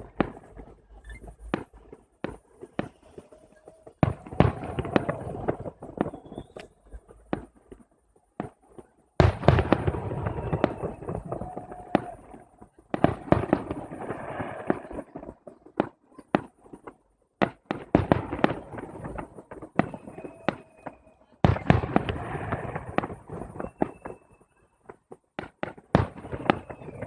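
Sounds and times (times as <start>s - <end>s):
firework bangs: 0.0s - 27.0s
firework crackle: 0.0s - 27.0s.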